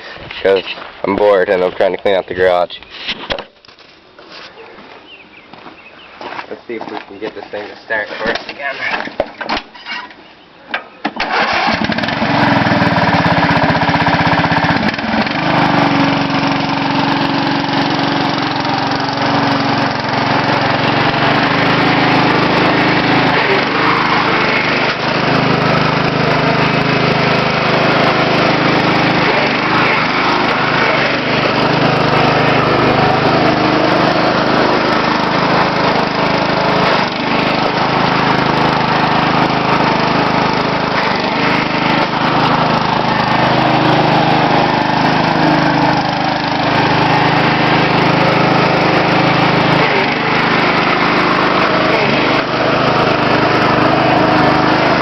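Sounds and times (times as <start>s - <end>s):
lawn mower engine running: 0.0s - 9.4s, 11.2s - 55.0s.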